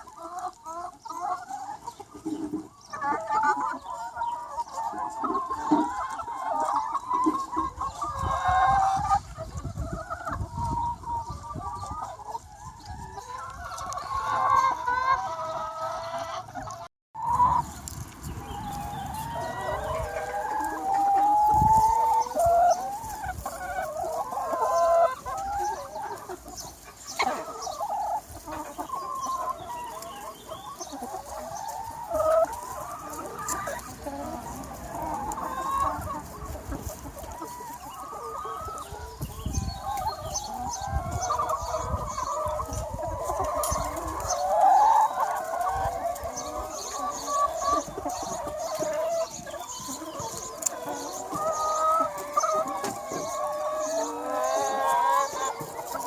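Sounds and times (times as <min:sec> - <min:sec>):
hens clucking: 0:00.0 - 0:56.0.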